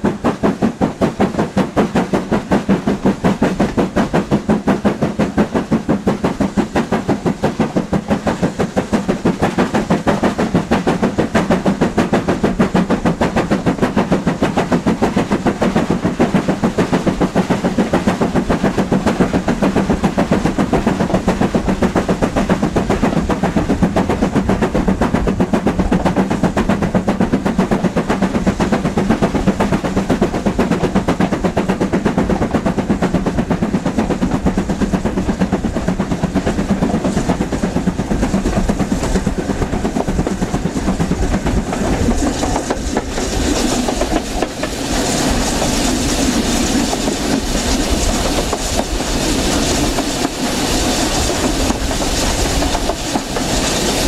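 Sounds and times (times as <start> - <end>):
steam engine exhaust beat: 0.0 - 54.0
wheels clattering on rails: 0.0 - 54.0.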